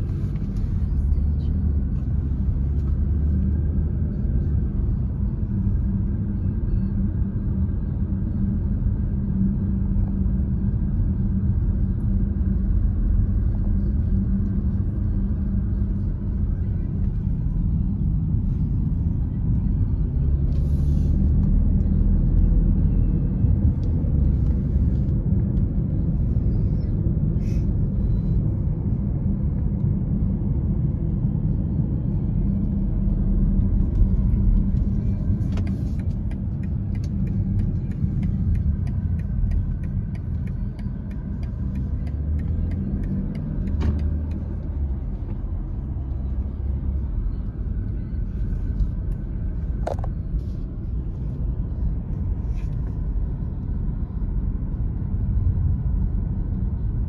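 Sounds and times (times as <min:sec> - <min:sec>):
car driving engine and tyre noise: 0:00.0 - 0:57.0.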